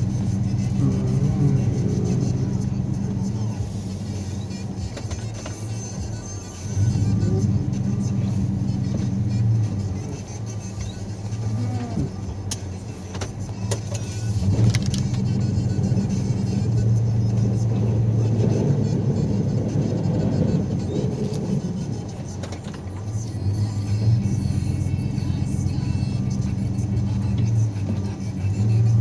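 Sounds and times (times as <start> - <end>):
snowplow engine running: 0.0 - 29.0.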